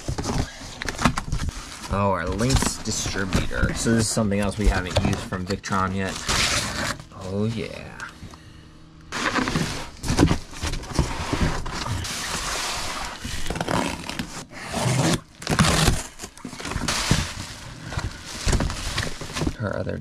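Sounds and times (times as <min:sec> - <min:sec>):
cardboard and bubble wrap rustling: 0:00.0 - 0:08.0, 0:09.1 - 0:19.8.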